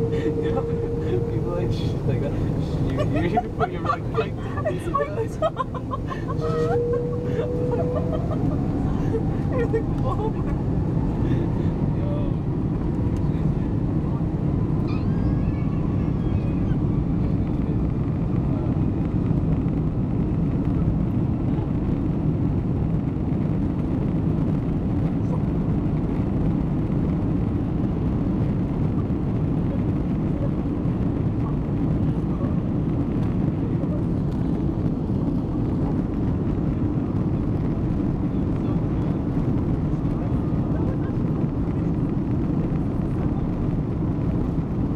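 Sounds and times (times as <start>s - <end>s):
jet engine and cabin rumble: 0.0s - 44.9s.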